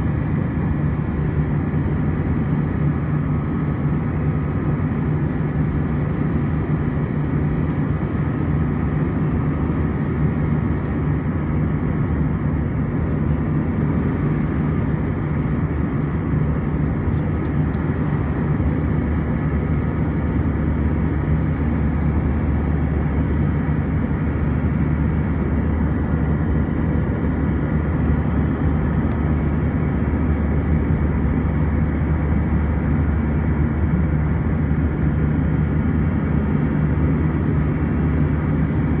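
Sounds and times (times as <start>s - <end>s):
jet engine drone: 0.0s - 39.0s.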